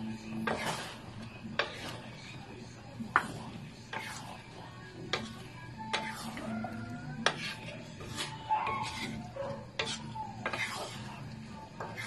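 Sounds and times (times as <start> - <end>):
food simmering in a pan: 0.0 - 12.0
spatula knocking and scraping pan: 0.0 - 12.0.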